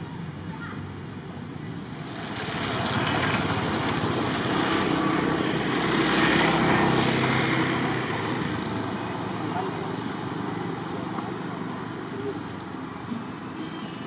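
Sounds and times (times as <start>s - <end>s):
engine passing by: 1.7s - 14.0s.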